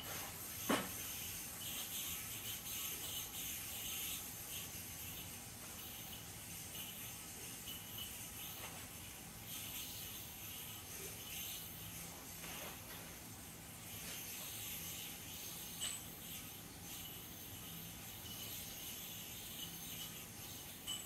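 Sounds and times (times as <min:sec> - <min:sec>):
yoyo string whirring: 0:00.0 - 0:21.0.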